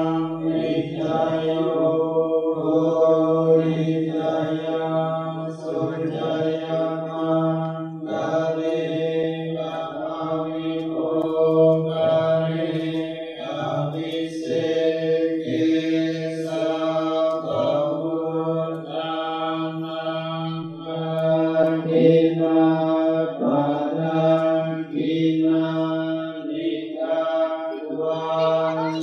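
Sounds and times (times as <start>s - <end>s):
monks chanting in unison: 0.0s - 29.0s.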